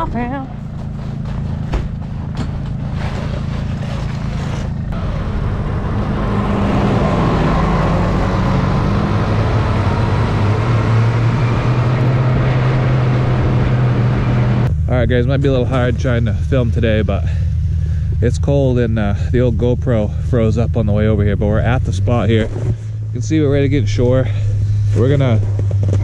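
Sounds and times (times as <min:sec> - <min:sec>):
snowmobile engine running: 0:00.0 - 0:26.0
snowmobile track noise: 0:00.0 - 0:26.0.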